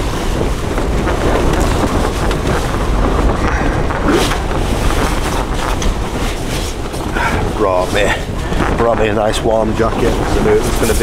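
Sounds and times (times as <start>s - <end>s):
gale wind blasting microphone: 0.0s - 11.0s.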